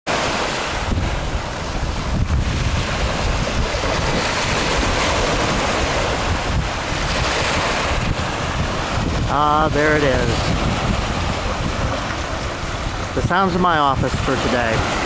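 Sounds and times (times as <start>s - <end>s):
waves breaking on beach: 0.1s - 15.0s
wind buffeting microphone: 0.1s - 15.0s.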